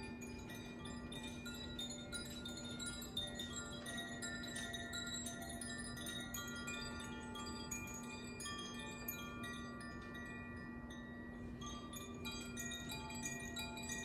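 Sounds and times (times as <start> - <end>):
wind chimes ringing: 0.0 - 14.0.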